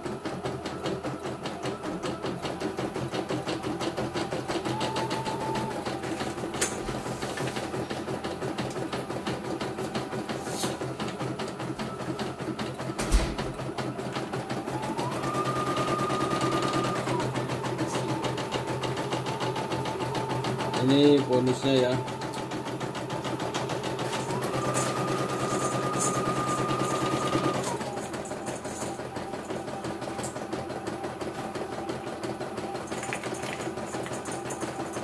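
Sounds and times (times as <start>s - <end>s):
embroidery machine stitching: 0.0s - 35.0s
motor whine: 0.0s - 35.0s.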